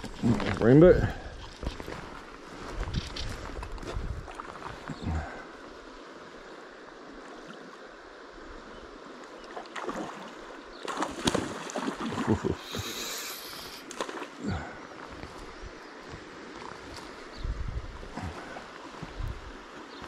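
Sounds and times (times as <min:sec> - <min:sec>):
river running over stones: 0:00.0 - 0:20.0.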